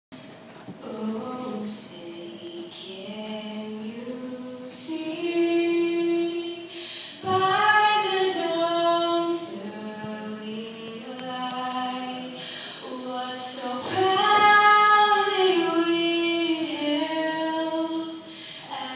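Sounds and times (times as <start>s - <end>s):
woman singing anthem unaccompanied: 0.8s - 18.9s.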